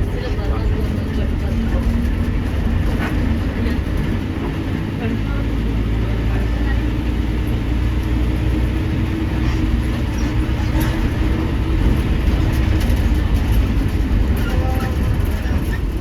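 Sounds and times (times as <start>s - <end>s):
constant low hum: 0.0s - 16.0s
vehicle rumbling in motion: 0.0s - 16.0s.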